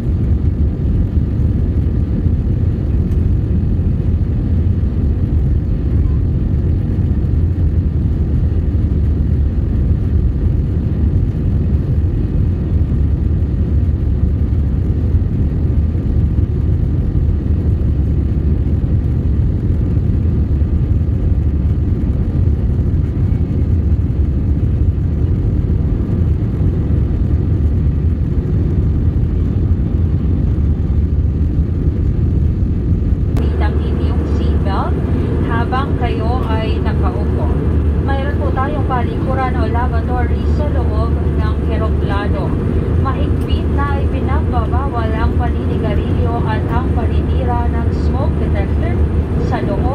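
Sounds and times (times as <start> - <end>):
faint steady hum: 0.0 - 49.9
jet engine and airflow rumble: 0.0 - 49.9.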